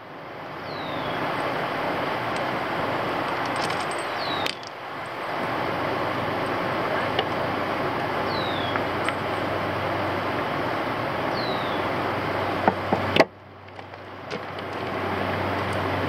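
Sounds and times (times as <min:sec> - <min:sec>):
faint hum: 0:00.0 - 0:16.0
steady rushing noise: 0:00.0 - 0:16.0.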